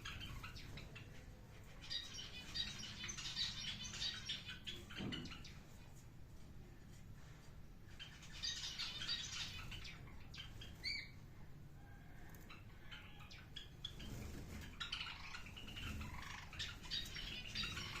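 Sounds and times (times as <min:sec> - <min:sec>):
pet birds chirping and chattering: 0:00.0 - 0:06.1, 0:07.9 - 0:11.3, 0:12.2 - 0:18.0.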